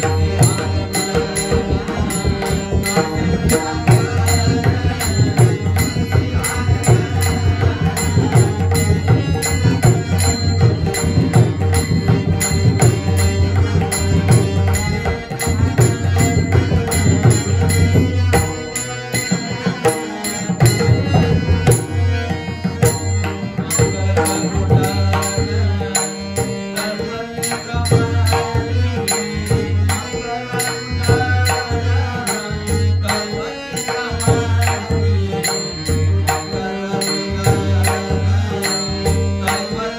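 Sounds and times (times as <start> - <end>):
devotional singing: 0.0 - 39.9
hand drum rhythm: 0.0 - 39.9.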